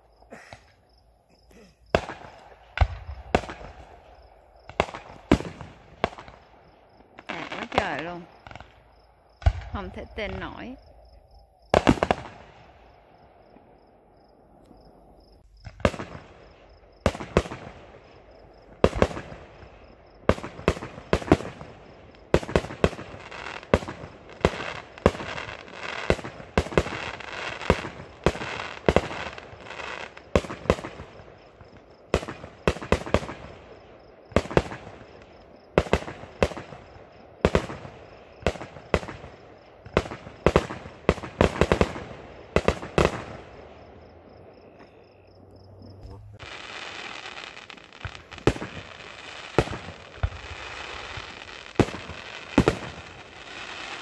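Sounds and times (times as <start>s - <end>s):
fireworks bangs and pops: 0.2s - 10.8s, 11.6s - 12.9s, 15.4s - 43.9s, 45.9s - 54.0s.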